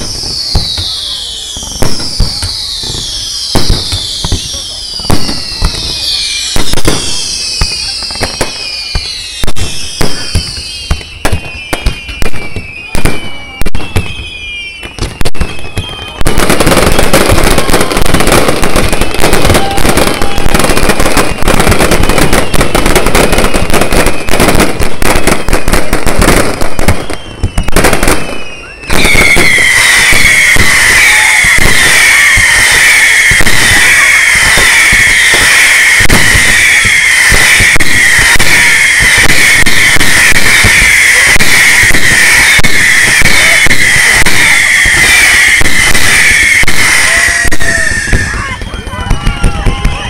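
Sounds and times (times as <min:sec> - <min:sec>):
crackling firework bursts: 0:00.0 - 0:50.0
firework falling whistles: 0:00.0 - 0:50.0
fireworks bangs: 0:00.0 - 0:50.0.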